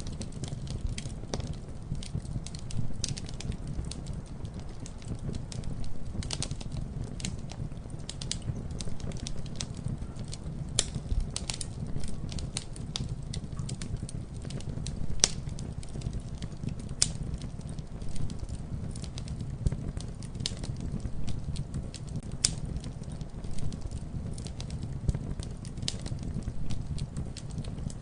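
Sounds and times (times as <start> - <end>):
burning wood crackling and popping: 0.0 - 28.0
campfire low rumble: 0.0 - 28.0.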